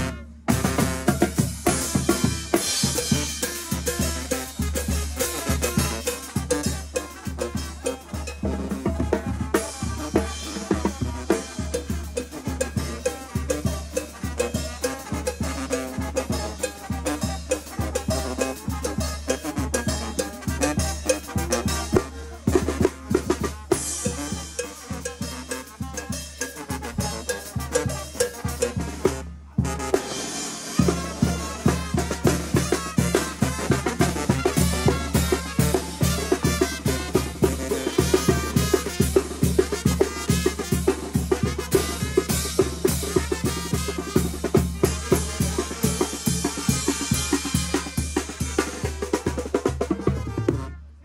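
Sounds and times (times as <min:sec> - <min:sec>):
bass drum and cymbal beat: 0:00.0 - 0:50.6
brass band playing: 0:00.0 - 0:51.0.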